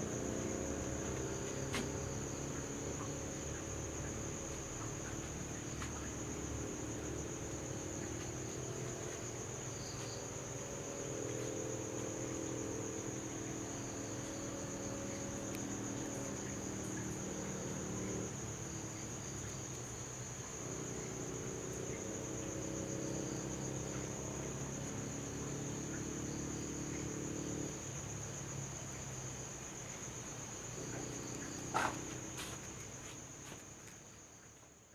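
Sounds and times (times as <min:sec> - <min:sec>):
insects chirring: 0:00.0 - 0:34.9.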